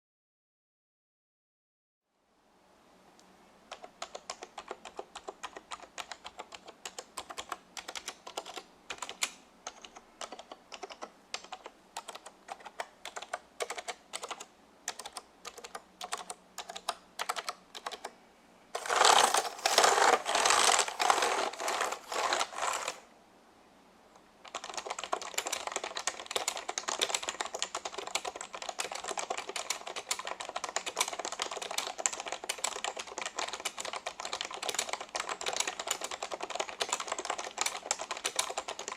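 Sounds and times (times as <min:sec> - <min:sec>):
keyboard typing: 0:03.7 - 0:18.2, 0:18.8 - 0:23.0, 0:24.4 - 0:38.9.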